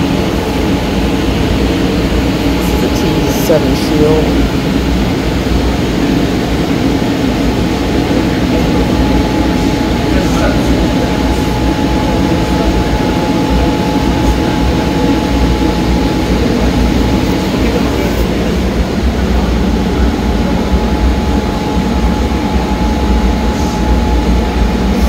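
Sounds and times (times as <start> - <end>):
faint steady whine: 0.0 - 25.0
store background rumble: 0.0 - 25.0.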